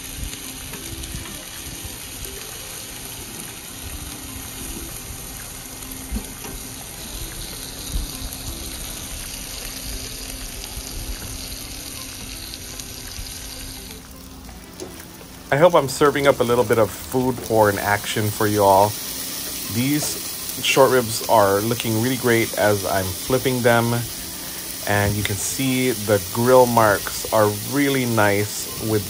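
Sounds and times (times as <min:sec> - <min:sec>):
meat sizzling on grill: 0:00.0 - 0:29.0.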